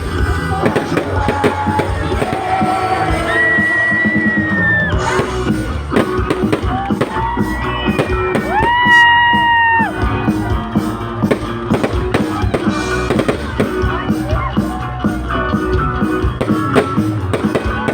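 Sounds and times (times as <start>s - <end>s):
loud concert music: 0.0s - 17.9s
steady drum beat: 0.0s - 17.9s.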